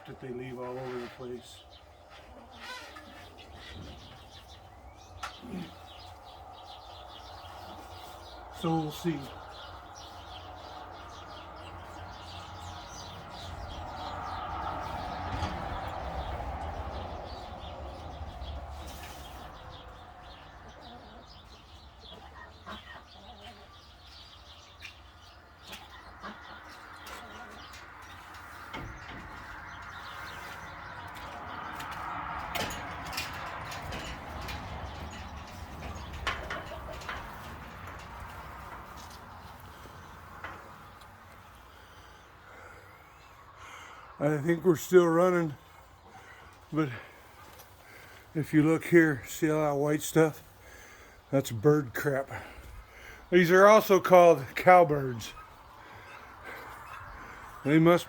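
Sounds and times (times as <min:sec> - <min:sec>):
flock of birds chattering: 0:00.0 - 0:58.0.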